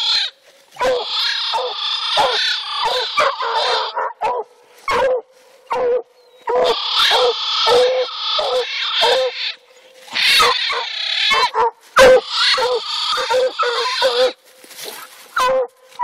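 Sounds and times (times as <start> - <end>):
hounds barking: 0.8 - 9.4, 10.3 - 15.7.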